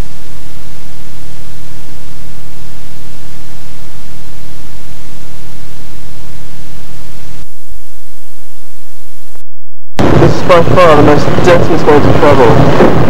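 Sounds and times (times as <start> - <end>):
low hum: 0.0 - 13.0
videotape static hiss: 0.0 - 13.0.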